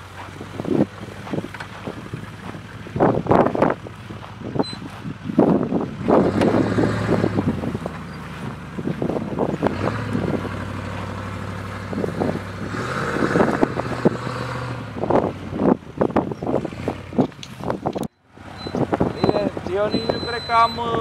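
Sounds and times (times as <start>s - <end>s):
car engine running: 0.0s - 21.0s
wind buffeting microphone: 0.0s - 21.0s.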